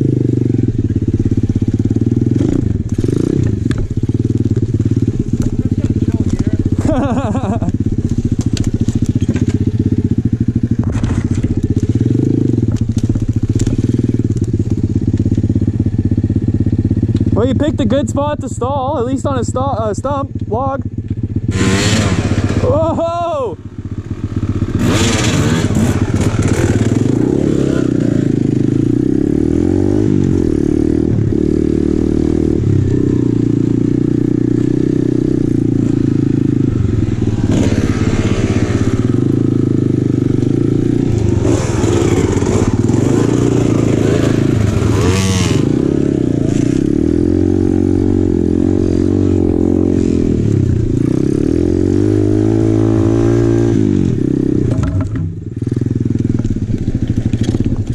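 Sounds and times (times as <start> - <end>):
motorcycle engine revving: 0.0 - 57.9
clatter and scraping on rough trail: 0.2 - 23.0, 23.9 - 57.9.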